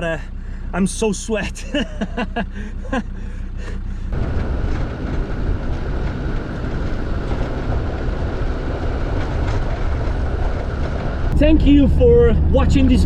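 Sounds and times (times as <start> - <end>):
diesel engine rattling rumble: 0.0 - 13.0.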